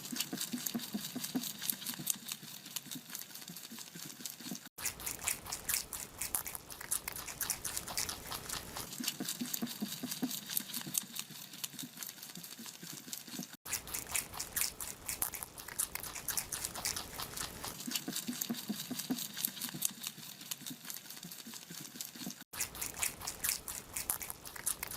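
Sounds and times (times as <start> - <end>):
rabbits chewing food: 0.0 - 24.9.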